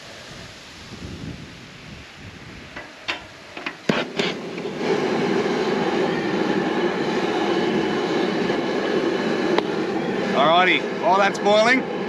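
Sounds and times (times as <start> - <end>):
gas burner rushing: 0.0 - 12.0.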